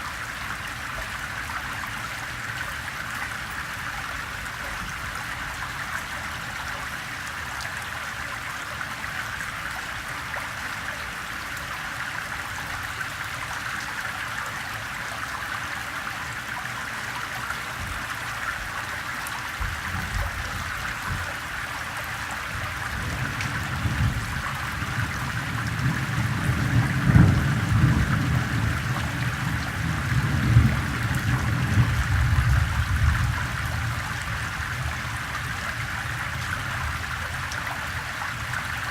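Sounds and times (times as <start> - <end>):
gentle rain: 0.0 - 38.9.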